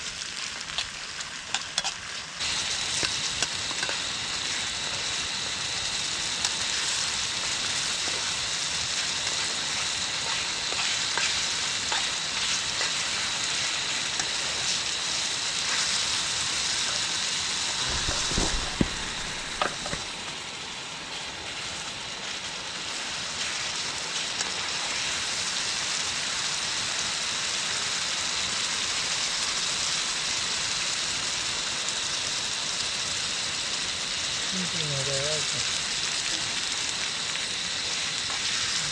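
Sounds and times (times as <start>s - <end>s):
curry sizzling in a pan: 0.0s - 38.9s.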